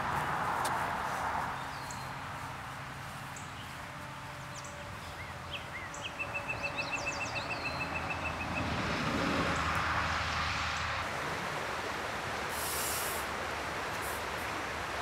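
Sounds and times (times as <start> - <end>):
songbirds chirping: 0.0 - 12.4
steady outdoor hiss: 0.0 - 15.0.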